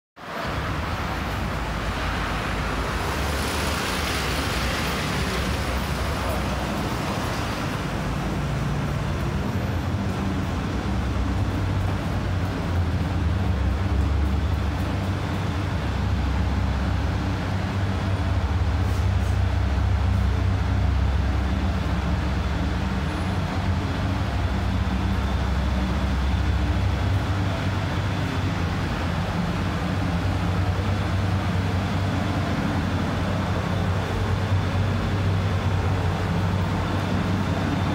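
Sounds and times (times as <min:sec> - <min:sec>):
low rumble and hum: 0:05.7 - 0:37.9.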